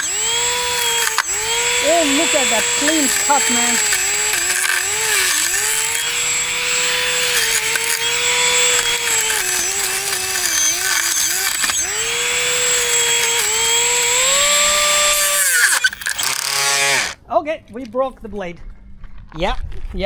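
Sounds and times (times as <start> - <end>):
grass being cut: 0.0 - 17.2
weed cutter motor whining: 0.0 - 17.2.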